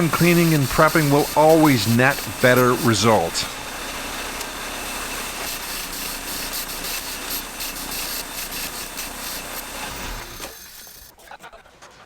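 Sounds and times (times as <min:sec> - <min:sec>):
abrasive rubbing on metal parts: 0:00.0 - 0:03.5, 0:05.0 - 0:11.3.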